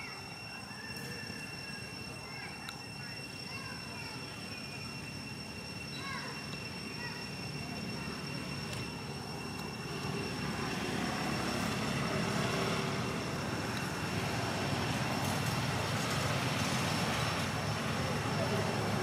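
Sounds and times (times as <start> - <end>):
faint high-pitched whine: 0.0 - 19.0
low rumble of traffic: 0.0 - 19.0.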